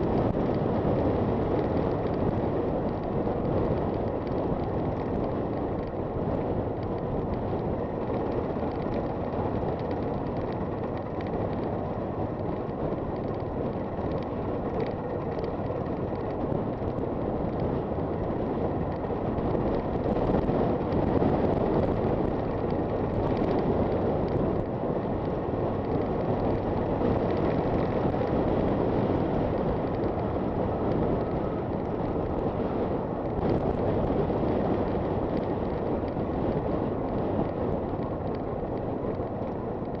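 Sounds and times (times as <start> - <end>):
wind on microphone: 0.0 - 40.0.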